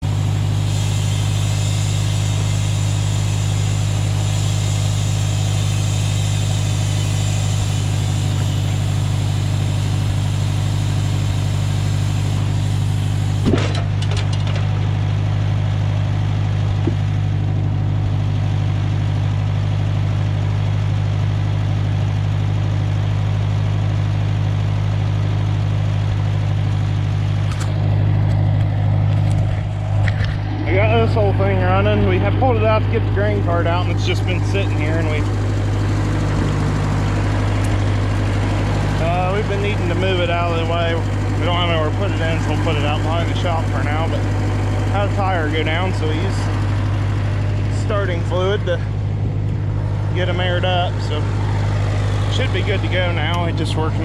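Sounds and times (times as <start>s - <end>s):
farm machine engine idling: 0.0s - 54.0s.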